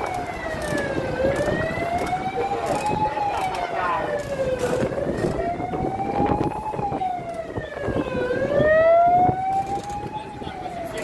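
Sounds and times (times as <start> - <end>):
road traffic rumble: 0.0 - 11.0
wailing siren: 0.0 - 11.0.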